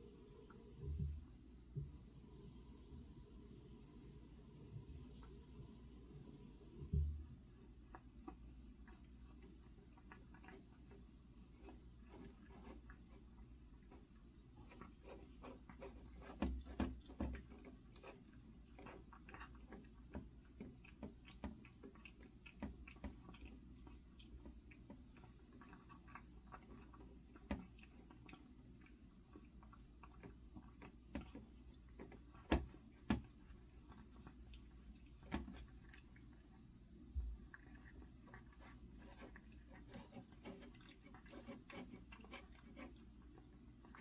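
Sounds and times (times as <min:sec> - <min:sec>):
cat chewing with small clicks: 0:05.0 - 0:44.0.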